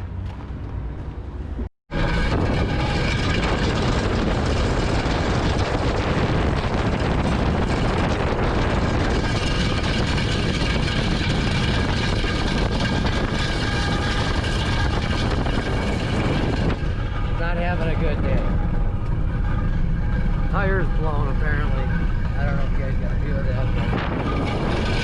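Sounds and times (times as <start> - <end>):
heavy truck driving: 0.0 - 25.0.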